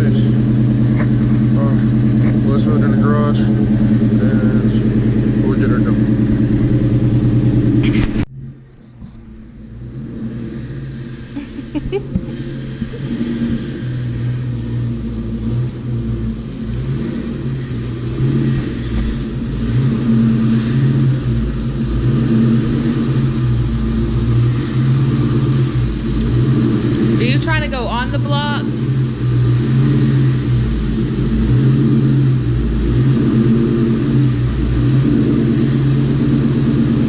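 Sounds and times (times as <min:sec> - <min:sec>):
car engine rumbling: 0:00.0 - 0:37.0.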